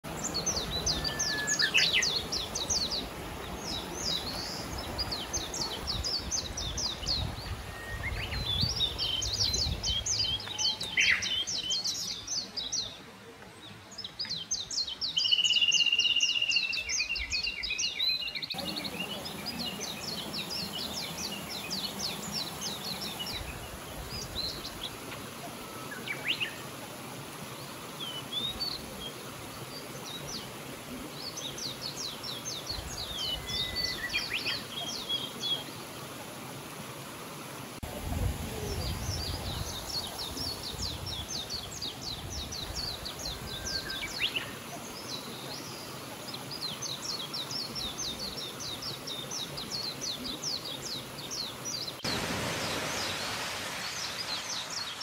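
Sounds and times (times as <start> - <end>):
small birds singing: 0.0 - 37.9, 38.5 - 55.0
mountain stream rushing: 0.0 - 55.0.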